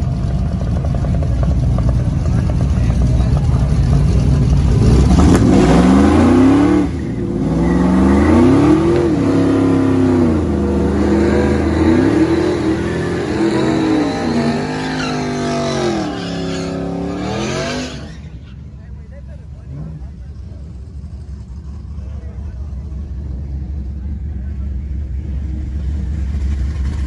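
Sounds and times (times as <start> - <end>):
race car engine at full throttle: 0.0 - 27.0.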